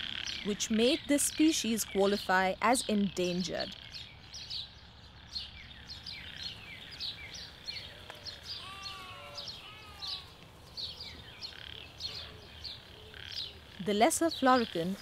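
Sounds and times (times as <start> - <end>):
birds chirping: 0.0 - 15.0
lower arched bird notes: 0.0 - 15.0.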